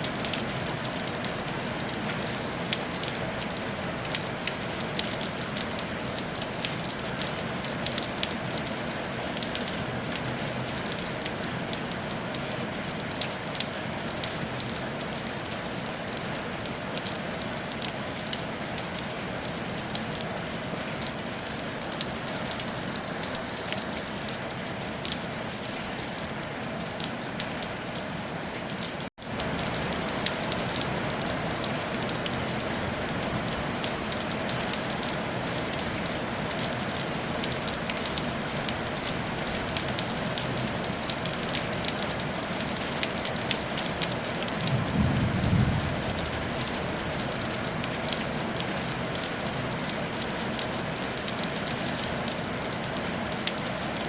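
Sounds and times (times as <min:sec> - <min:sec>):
rain on a tile roof: 0:00.0 - 0:54.0.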